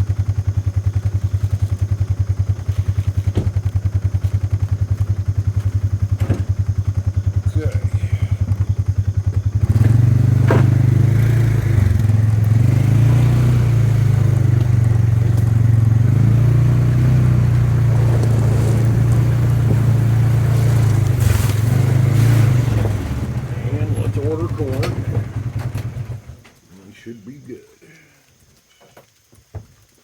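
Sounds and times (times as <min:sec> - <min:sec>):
vehicle engine running: 0:00.0 - 0:27.1.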